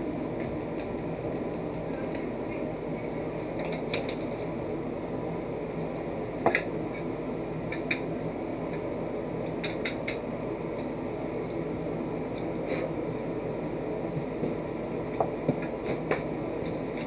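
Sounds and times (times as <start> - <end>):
fan-like whir: 0.0 - 17.0.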